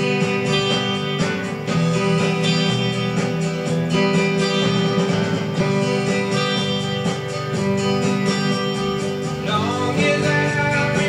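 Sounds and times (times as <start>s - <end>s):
electric guitar strumming chords: 0.0s - 11.0s.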